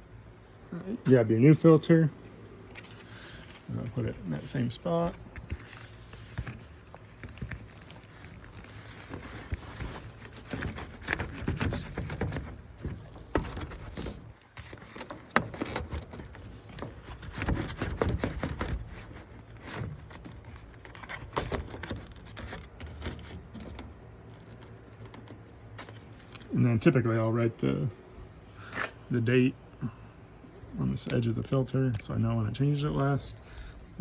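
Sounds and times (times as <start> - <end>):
filter scraping and rustling: 1.0 - 29.3.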